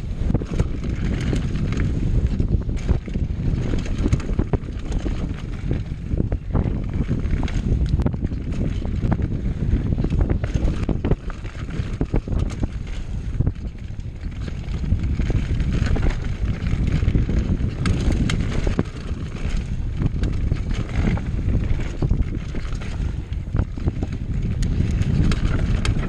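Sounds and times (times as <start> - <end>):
bike rattling over bumps: 0.0 - 26.0
wind buffeting microphone: 0.0 - 26.0.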